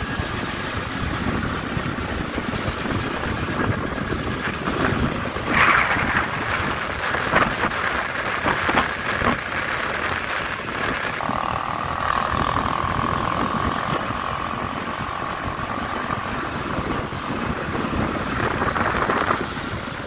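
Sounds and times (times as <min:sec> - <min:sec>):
motorcycle road and engine noise: 0:00.0 - 0:20.0
wind rushing over microphone: 0:00.0 - 0:20.0.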